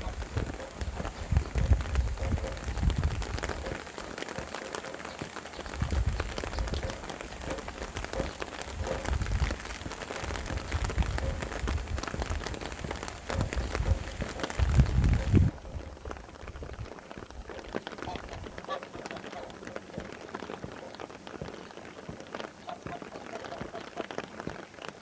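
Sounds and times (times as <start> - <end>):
wind gusts rumbling: 0.0 - 21.4
rain patter: 0.0 - 25.0.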